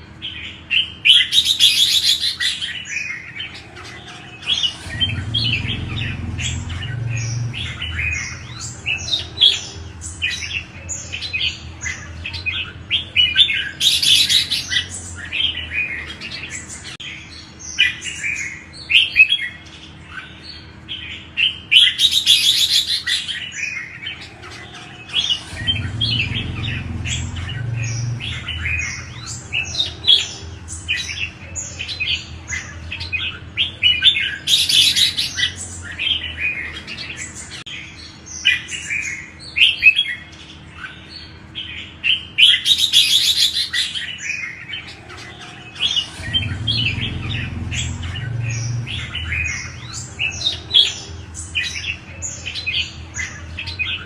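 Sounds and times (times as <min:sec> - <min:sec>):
bulbuls chirping: 0:00.0 - 0:54.0.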